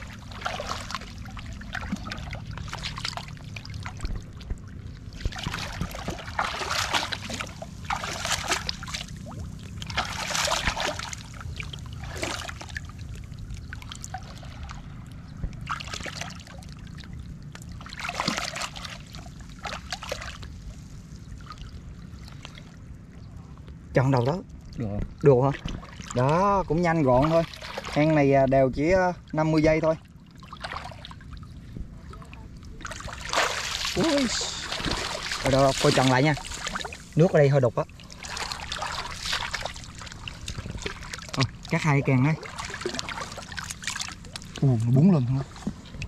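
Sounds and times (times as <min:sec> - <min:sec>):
water splashing and sloshing: 0:00.0 - 0:46.0.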